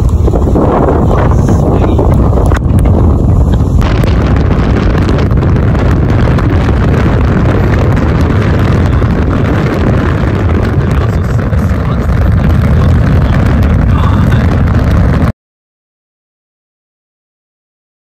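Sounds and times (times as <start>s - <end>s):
wind blowing across microphone: 0.0s - 15.3s.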